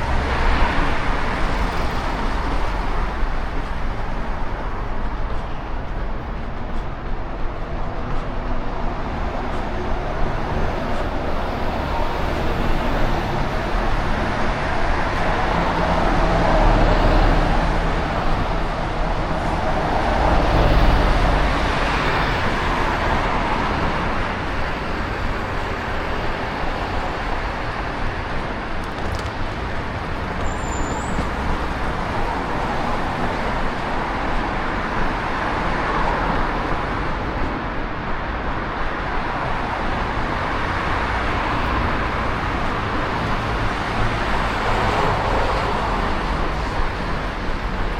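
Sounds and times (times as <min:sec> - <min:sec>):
road traffic noise: 0:00.0 - 0:47.9
vehicles passing: 0:00.0 - 0:47.9.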